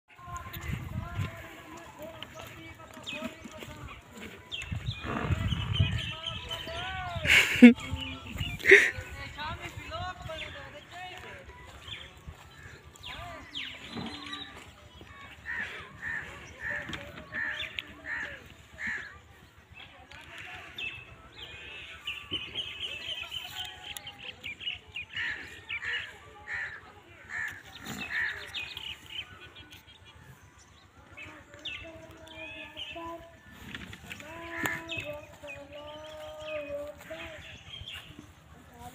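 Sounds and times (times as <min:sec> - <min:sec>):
birds calling: 0:00.1 - 0:38.9
bird chatter: 0:00.3 - 0:38.9.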